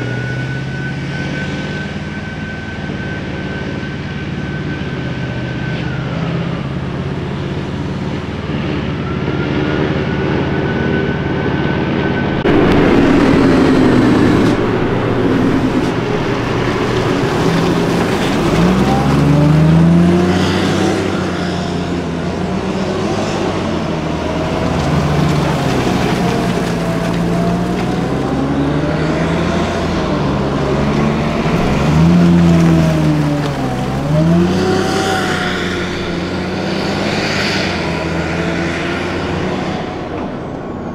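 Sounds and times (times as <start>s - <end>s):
diesel engines passing close: 0.0s - 40.9s
military vehicles driving by: 0.0s - 40.9s.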